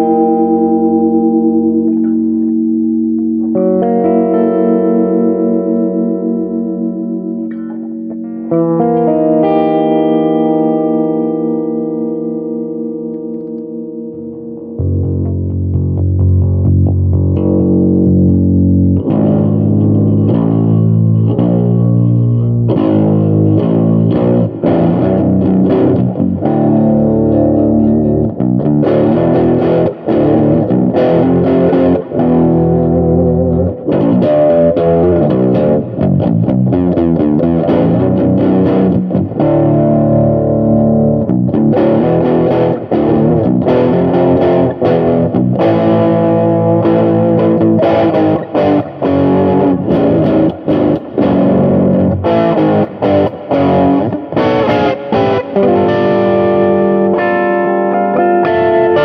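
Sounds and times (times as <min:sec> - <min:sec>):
distorted electric guitar blues: 0:00.0 - 0:59.0.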